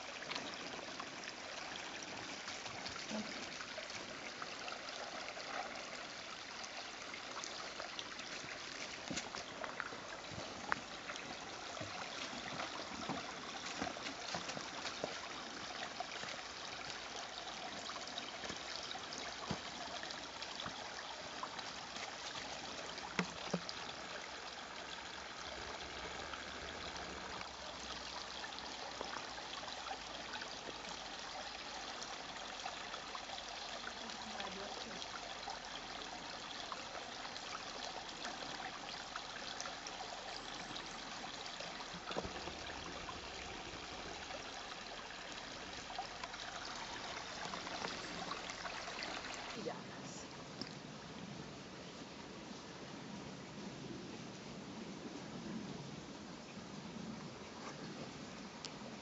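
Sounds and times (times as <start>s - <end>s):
brook trickling and babbling: 0.0s - 53.4s, 55.7s - 59.0s.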